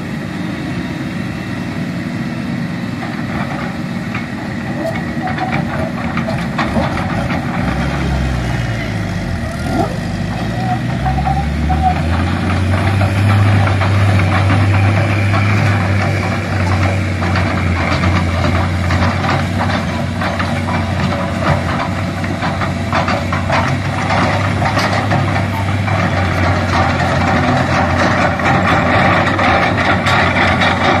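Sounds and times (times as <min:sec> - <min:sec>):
excavator diesel engine humming: 0:00.0 - 0:31.0.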